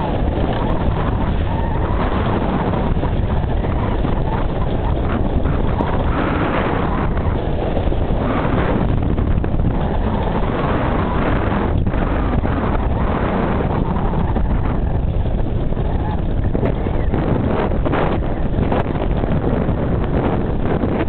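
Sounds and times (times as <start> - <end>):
choppy water washing: 0.0 - 21.0
wind buffeting microphone: 0.0 - 21.0.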